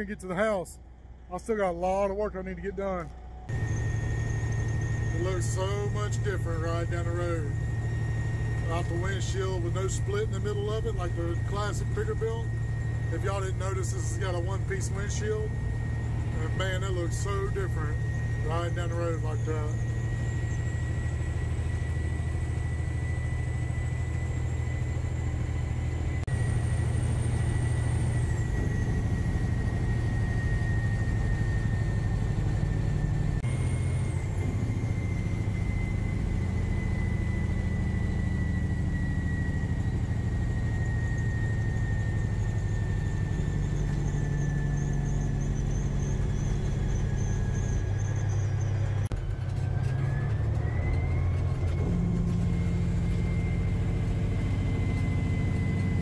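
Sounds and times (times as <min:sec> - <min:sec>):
thin high whine: 0:00.0 - 0:56.0
truck engine drone: 0:00.0 - 0:56.0.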